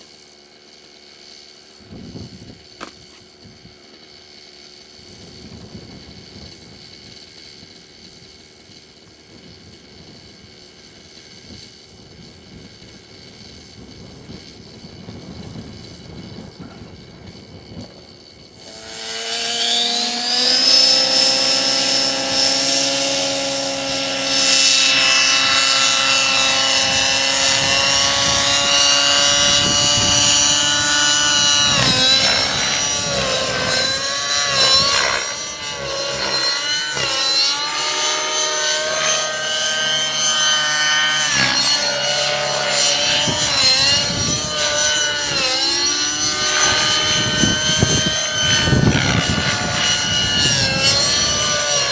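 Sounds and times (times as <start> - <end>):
model helicopter whine: 0.0 - 51.9.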